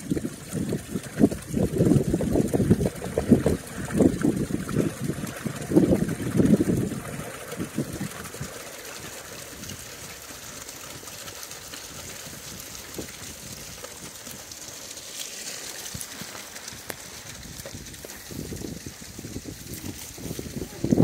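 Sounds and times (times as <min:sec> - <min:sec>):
water running in pool: 0:00.0 - 0:21.0.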